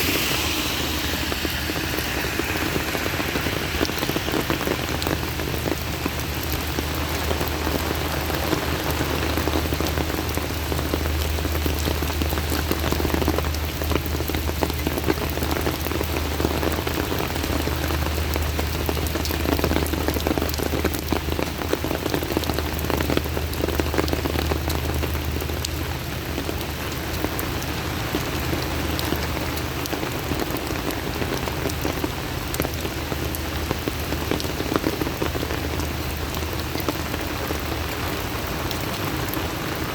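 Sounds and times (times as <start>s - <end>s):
heavy rain pattering: 0.0s - 39.9s
steady low rumble: 0.0s - 39.9s.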